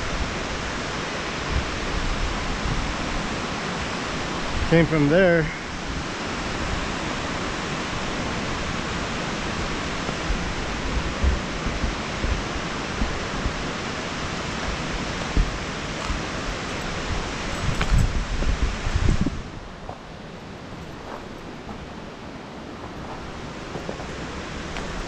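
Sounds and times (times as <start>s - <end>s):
waterfall rushing over rock: 0.0s - 25.0s.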